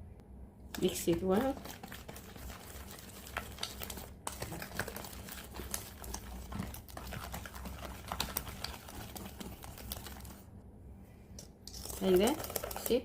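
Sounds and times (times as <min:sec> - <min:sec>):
utensil scraping mixing bowl: 0:00.7 - 0:10.5, 0:11.6 - 0:13.0.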